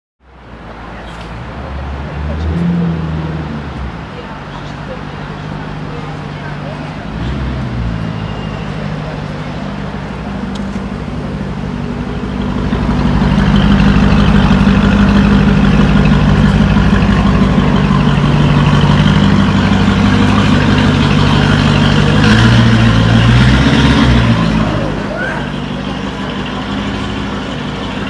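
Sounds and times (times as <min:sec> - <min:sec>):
car engine idling: 0:00.3 - 0:28.0.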